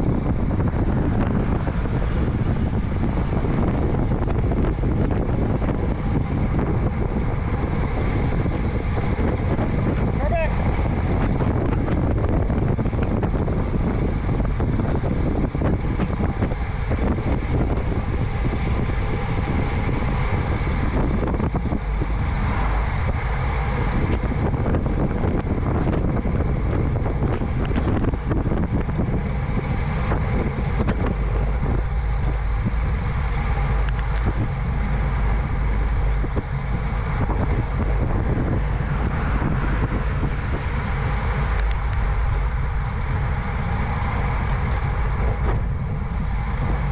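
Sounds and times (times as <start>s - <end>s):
wind rush on microphone: 0.0s - 46.9s.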